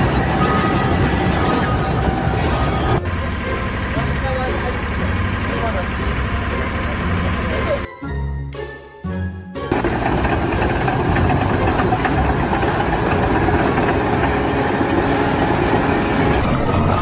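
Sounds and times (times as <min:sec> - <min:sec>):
machinery rumbling and clattering: 0:00.0 - 0:07.9, 0:09.7 - 0:17.0.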